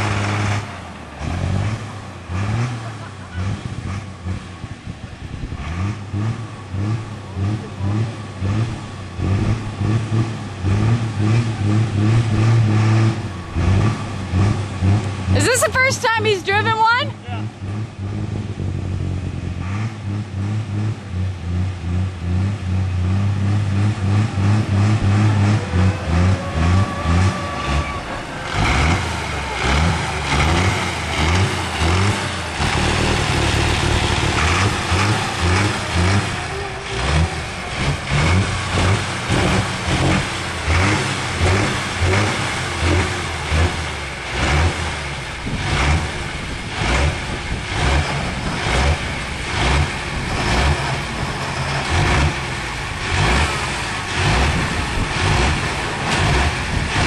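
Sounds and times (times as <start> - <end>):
diesel tractor engine running loud: 0.0 - 57.0.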